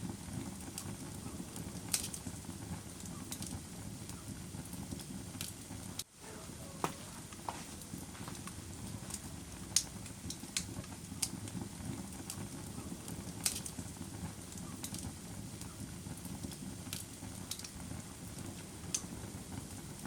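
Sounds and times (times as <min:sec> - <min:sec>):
low rumble of burning: 0:00.0 - 0:20.0
wood fire popping and snapping: 0:00.0 - 0:20.0.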